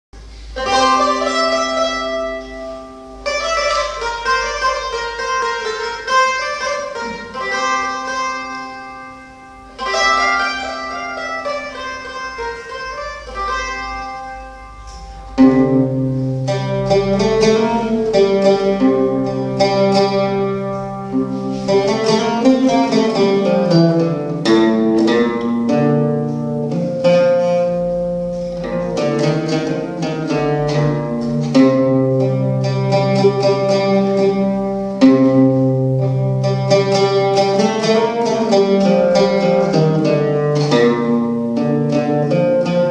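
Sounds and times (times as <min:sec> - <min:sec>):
plucked lute folk music: 0:00.2 - 0:42.9.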